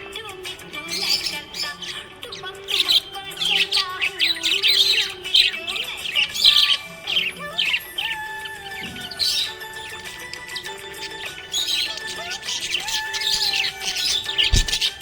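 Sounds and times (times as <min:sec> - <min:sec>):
background music: 0:00.0 - 0:15.0
budgie chirping: 0:00.0 - 0:15.0.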